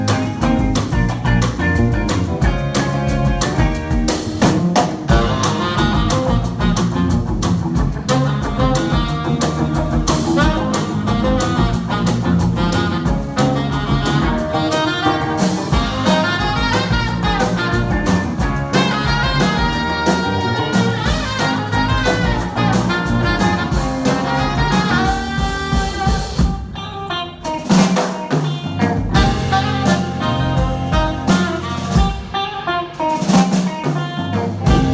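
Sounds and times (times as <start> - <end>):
drum kit beat: 0.0 - 34.9
live band playing: 0.0 - 34.9.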